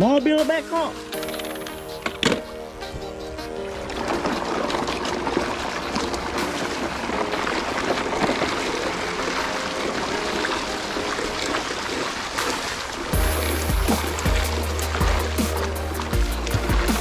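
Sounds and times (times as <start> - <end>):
creek water running over stones: 0.0 - 17.0.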